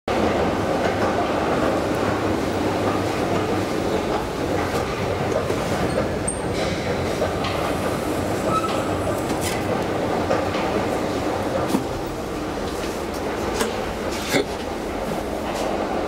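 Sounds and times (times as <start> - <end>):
metro train rumbling: 0.1 - 16.0.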